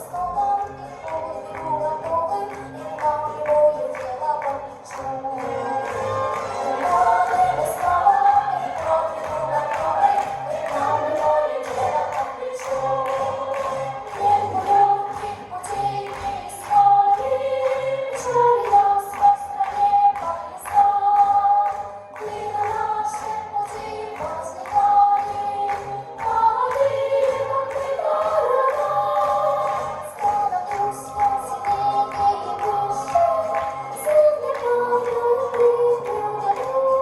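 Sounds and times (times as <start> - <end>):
group singing a song: 0.0 - 37.0.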